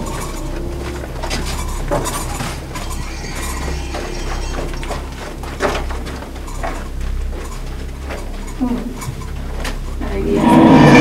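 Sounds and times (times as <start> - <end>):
scattered clicks: 0.0 - 10.2
creaky mechanical knocks: 0.0 - 11.0
steady low rumble: 0.0 - 11.0.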